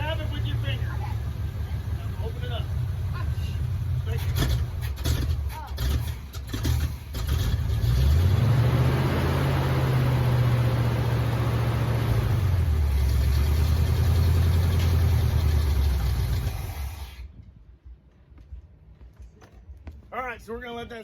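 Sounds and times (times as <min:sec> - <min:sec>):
pickup engine running: 0:00.0 - 0:17.3.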